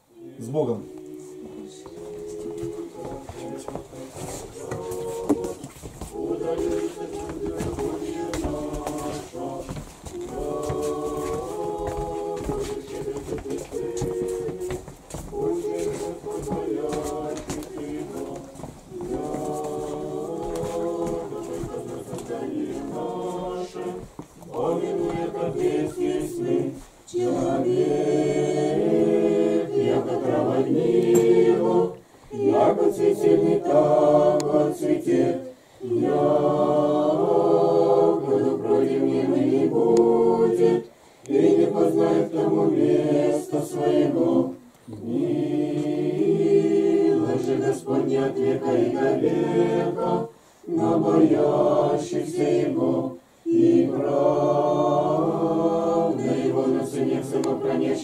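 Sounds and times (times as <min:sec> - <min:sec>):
group singing a prayer: 0:00.0 - 0:58.0.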